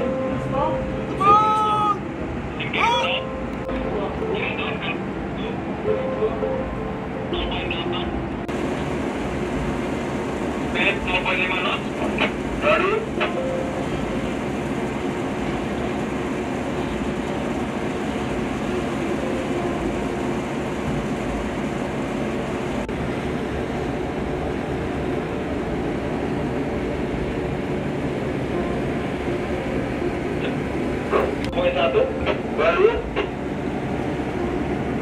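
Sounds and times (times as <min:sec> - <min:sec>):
machinery hum: 0:00.0 - 0:35.0.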